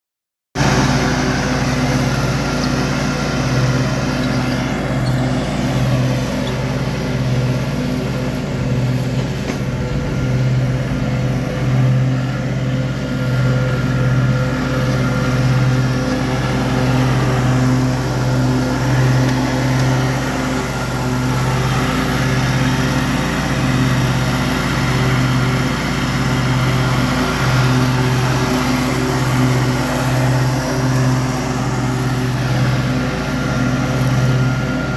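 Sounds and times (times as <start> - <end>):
lawn mower engine running: 0.6 - 34.9.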